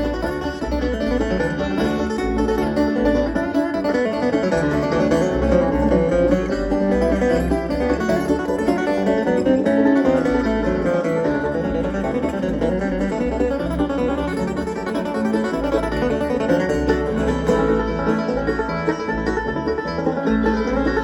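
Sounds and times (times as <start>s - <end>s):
acoustic guitar: 0.0s - 21.0s
picked banjo: 0.0s - 21.0s
steady bass line: 0.0s - 21.0s.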